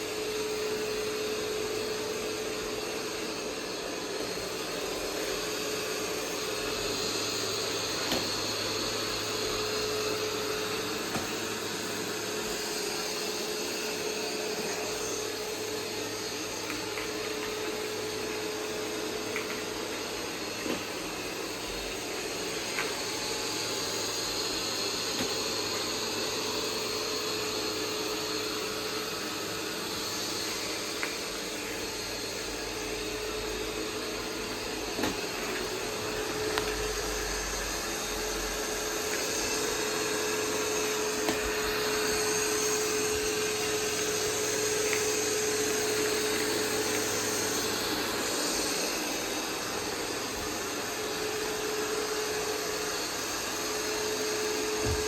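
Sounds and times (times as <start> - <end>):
robot vacuum humming: 0.0 - 55.0.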